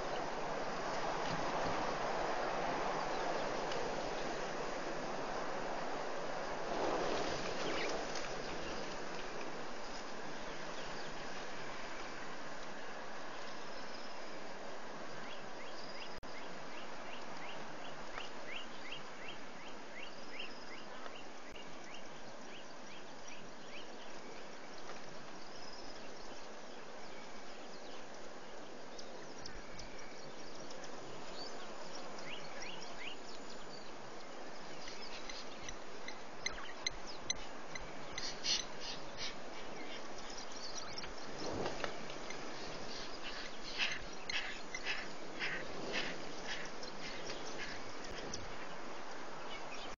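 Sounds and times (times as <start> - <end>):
steady hiss: 0.0 - 49.9
small birds chirping: 7.2 - 49.9.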